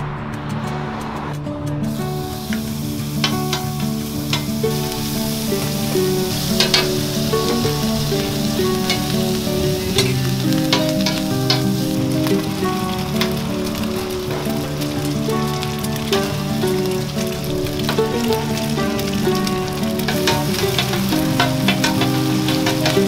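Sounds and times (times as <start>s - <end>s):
background music: 0.0s - 23.0s
food sizzling on a griddle: 1.9s - 23.0s.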